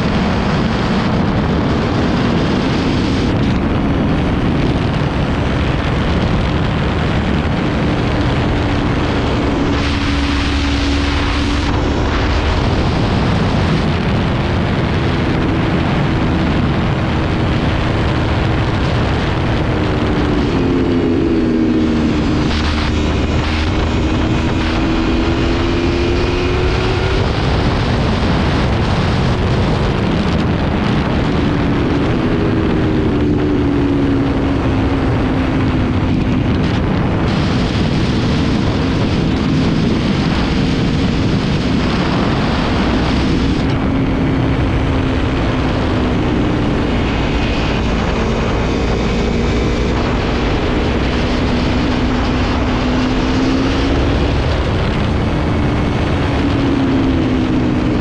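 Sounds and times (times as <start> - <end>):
motorcycle engine: 0.0 - 58.0
wind rushing over microphone: 0.0 - 58.0.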